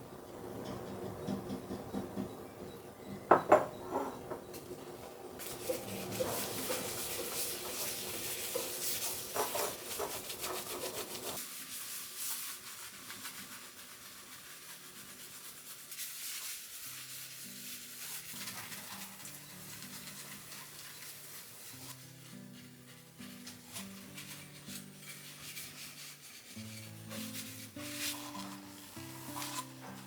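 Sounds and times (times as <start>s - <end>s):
soft background music: 0.1s - 9.4s, 14.3s - 30.0s
kitchen rubbing and scraping: 5.4s - 30.0s.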